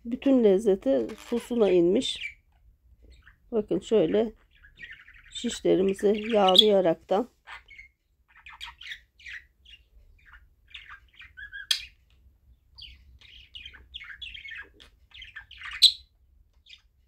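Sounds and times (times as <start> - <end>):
small bird chirping: 0.9 - 17.0.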